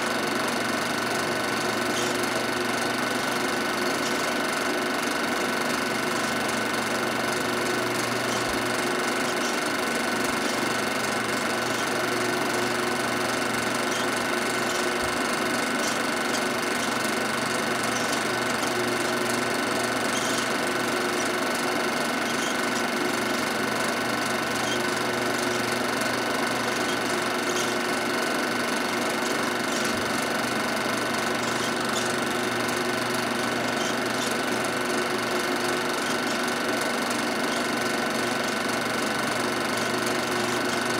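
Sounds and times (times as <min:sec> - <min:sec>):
film projector whirring clatter: 0:00.0 - 0:40.9.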